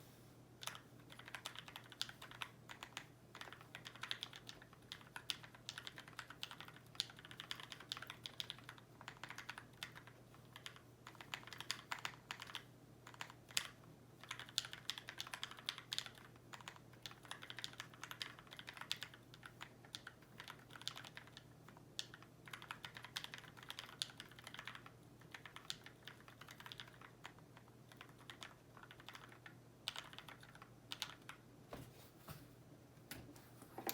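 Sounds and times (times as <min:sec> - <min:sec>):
mechanical keyboard typing: 0:00.6 - 0:31.4.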